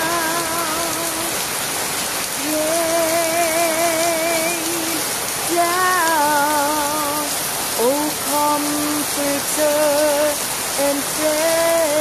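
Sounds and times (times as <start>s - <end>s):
woman singing with vibrato: 0.0s - 1.5s, 2.3s - 12.0s
steady rain: 0.0s - 12.0s.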